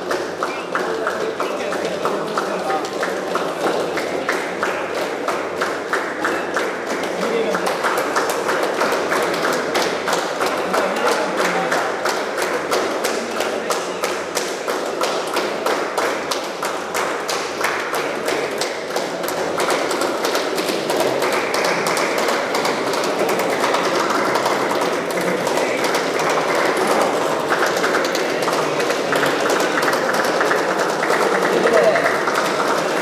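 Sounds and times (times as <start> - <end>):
crowd talking in a large hall: 0.0 - 33.0.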